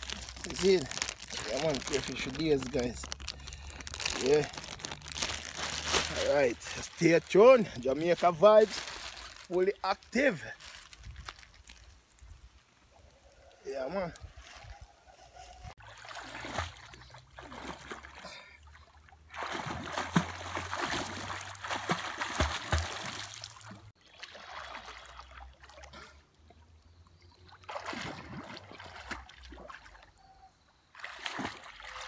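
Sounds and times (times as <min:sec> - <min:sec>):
water splashing and sloshing: 0:00.0 - 0:10.0, 0:14.2 - 0:30.3, 0:30.9 - 0:32.0.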